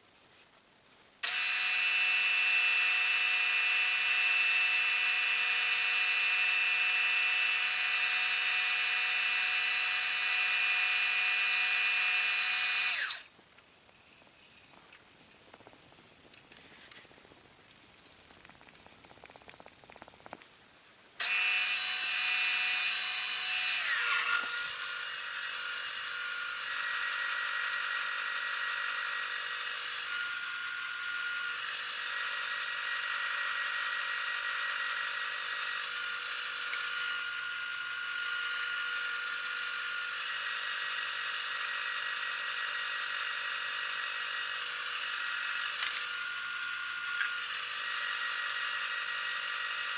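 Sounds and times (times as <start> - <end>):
wood lathe motor whining: 1.2 - 13.3, 21.2 - 49.9.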